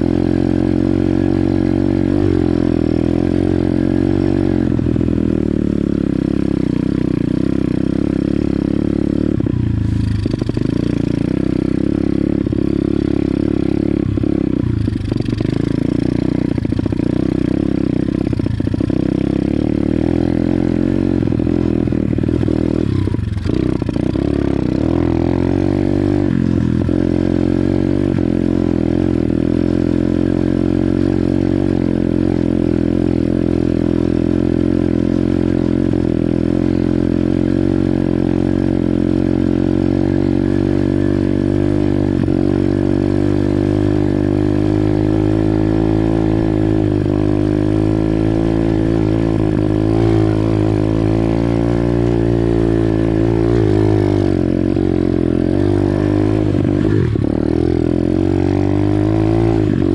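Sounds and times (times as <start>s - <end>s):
motorbike engine under throttle: 0.0s - 59.9s.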